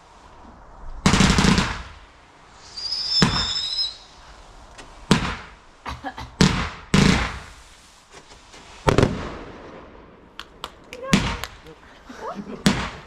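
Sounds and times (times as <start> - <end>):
fireworks crackling: 0.0 - 13.0
fireworks bangs: 0.9 - 13.0.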